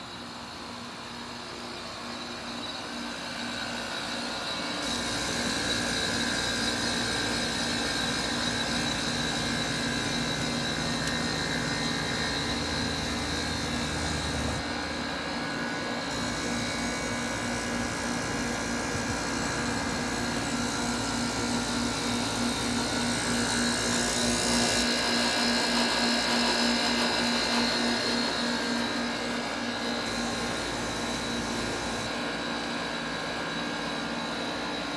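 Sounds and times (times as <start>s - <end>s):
heat pump compressor hum: 0.0s - 34.9s.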